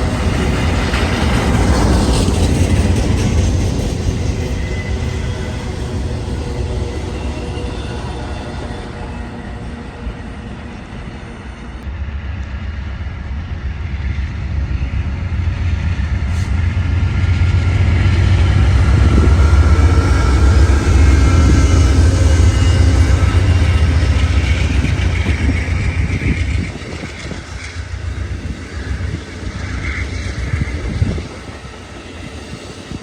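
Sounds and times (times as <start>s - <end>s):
train passing rumble: 0.0s - 33.0s.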